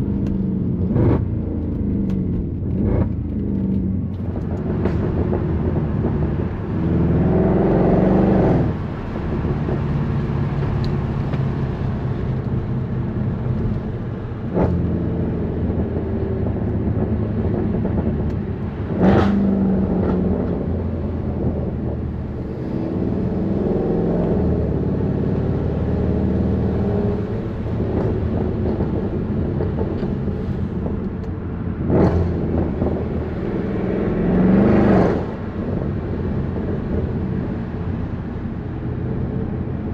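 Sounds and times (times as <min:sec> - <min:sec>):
car exhaust accelerating: 0:00.0 - 0:39.9.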